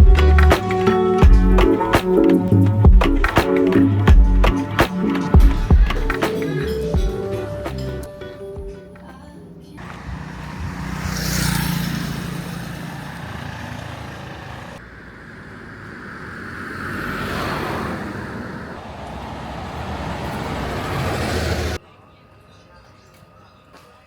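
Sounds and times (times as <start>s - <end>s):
vehicles passing: 0.0s - 21.8s.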